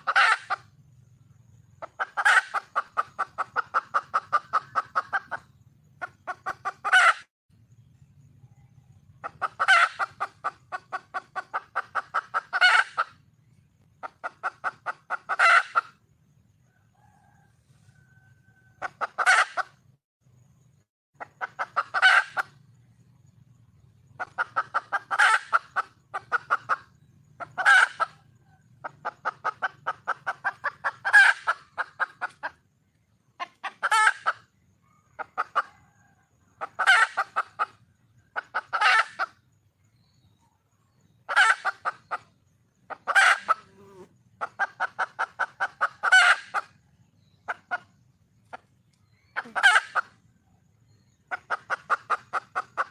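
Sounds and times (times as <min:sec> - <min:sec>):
hen clucking and calling: 0:00.0 - 0:07.3, 0:08.3 - 0:20.0, 0:20.7 - 0:52.9.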